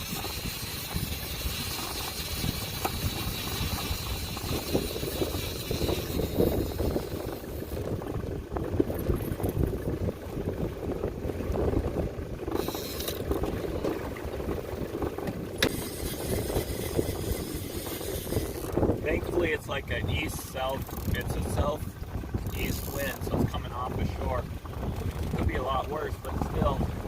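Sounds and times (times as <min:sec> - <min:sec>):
water around a boat: 0:00.0 - 0:27.0
wind buffeting microphone: 0:00.0 - 0:27.0.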